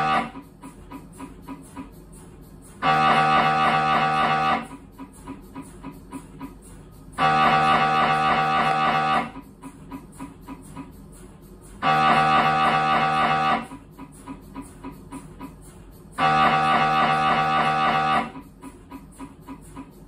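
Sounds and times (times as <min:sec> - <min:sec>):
mri scanner loud buzzing: 0:00.0 - 0:02.0, 0:02.6 - 0:10.7, 0:11.8 - 0:18.7.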